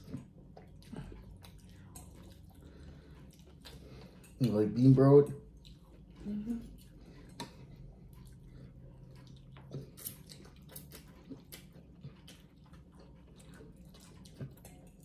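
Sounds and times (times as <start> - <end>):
slurping and chewing noodles: 0.0 - 15.0.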